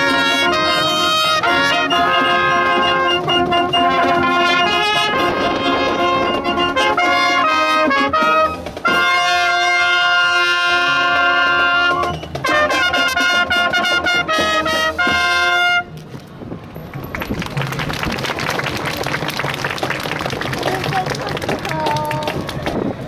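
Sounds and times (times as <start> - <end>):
marching band playing: 0.0 - 23.0.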